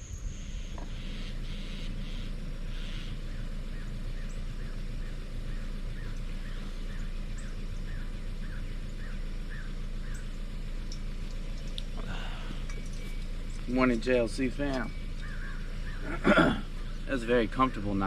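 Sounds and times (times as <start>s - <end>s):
steady low hum: 0.0s - 18.0s
animal calling: 0.6s - 10.8s, 11.7s - 17.8s.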